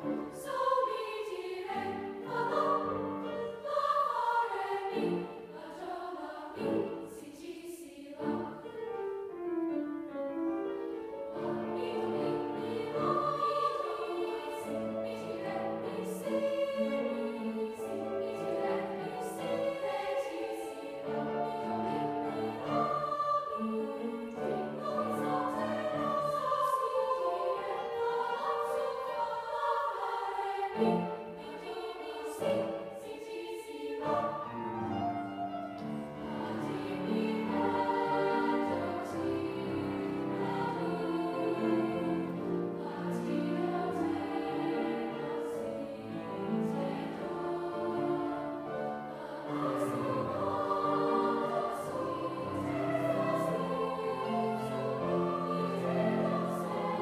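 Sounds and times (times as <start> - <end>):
grand piano accompaniment: 0.0 - 57.0
treble choir singing: 0.0 - 57.0.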